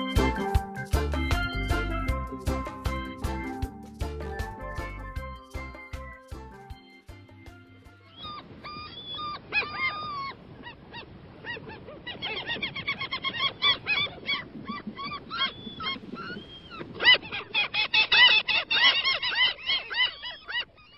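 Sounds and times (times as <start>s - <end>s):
gulls calling: 0.0s - 20.9s.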